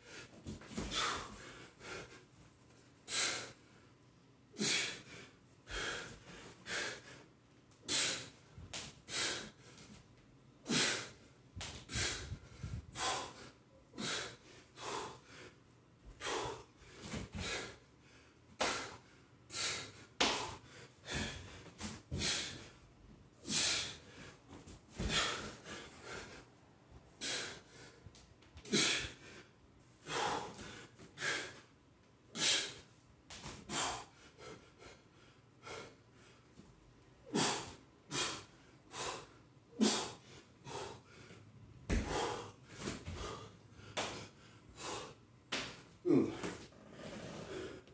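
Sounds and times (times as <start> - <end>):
man breathing hard: 0.0 - 2.4, 3.0 - 3.9, 4.5 - 8.4, 9.0 - 10.0, 10.6 - 22.8, 23.4 - 31.7, 33.6 - 36.5, 37.2 - 45.3, 46.0 - 47.9.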